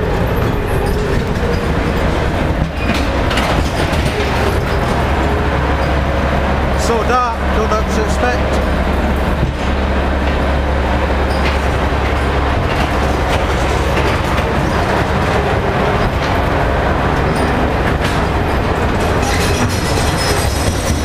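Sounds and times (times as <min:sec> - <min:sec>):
ride car rumbling on track: 0:00.0 - 0:21.0
wheels clacking on rail: 0:00.0 - 0:21.0.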